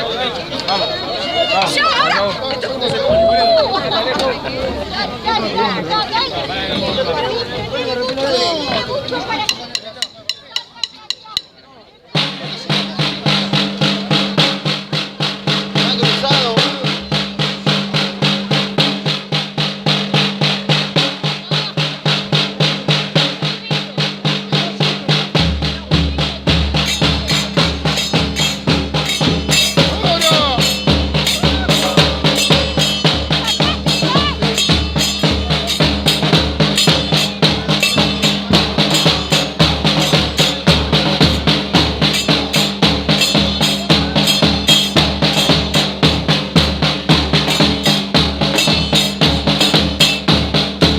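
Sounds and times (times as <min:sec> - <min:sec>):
fast drum beat: 0:09.3 - 0:50.9.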